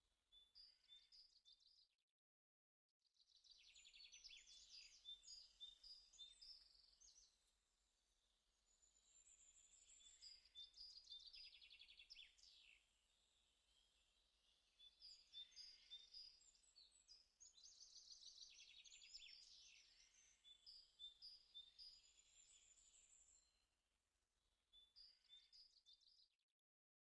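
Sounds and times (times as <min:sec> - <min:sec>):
faint birdsong: 0:00.0 - 0:01.9, 0:03.1 - 0:23.7, 0:24.5 - 0:26.5.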